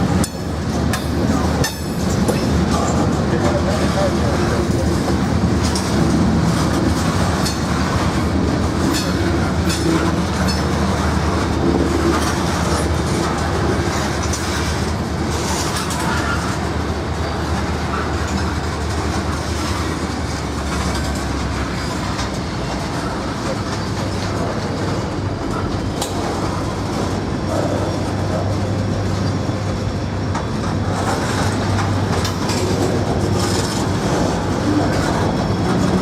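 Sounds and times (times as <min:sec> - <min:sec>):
freight train wheels clicking: 0:00.0 - 0:36.0
train low rumble: 0:00.0 - 0:36.0.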